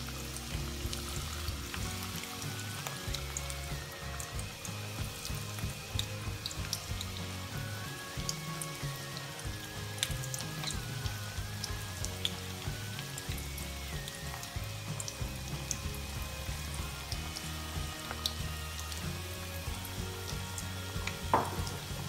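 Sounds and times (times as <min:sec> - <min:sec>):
chicken frying in hot oil: 0:00.0 - 0:22.0
soft background music: 0:00.0 - 0:22.0.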